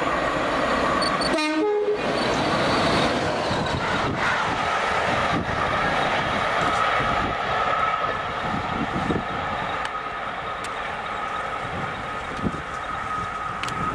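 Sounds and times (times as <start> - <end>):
train wheels rushing on rails: 0.0 - 13.9.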